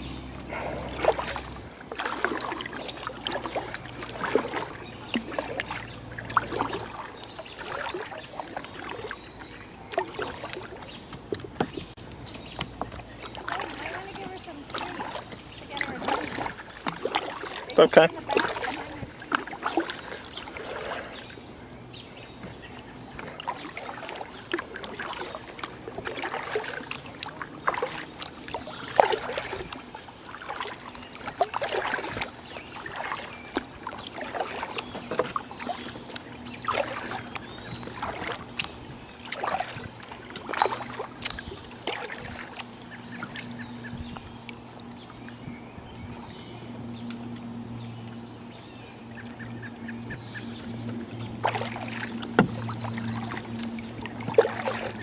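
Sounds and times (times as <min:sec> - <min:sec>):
kayak paddle splashing: 0:00.0 - 0:55.0.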